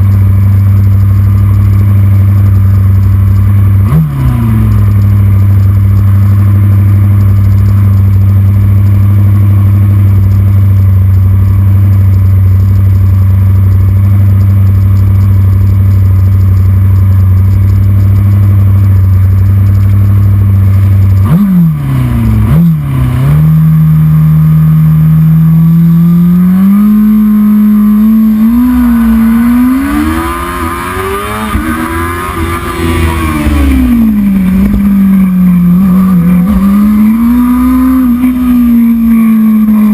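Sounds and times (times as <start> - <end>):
race motorcycle engine revving: 0.0 - 39.9.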